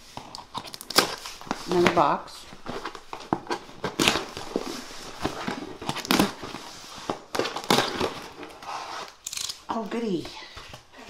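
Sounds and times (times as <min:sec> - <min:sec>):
cardboard box rustling and crinkling: 0:00.0 - 0:09.2.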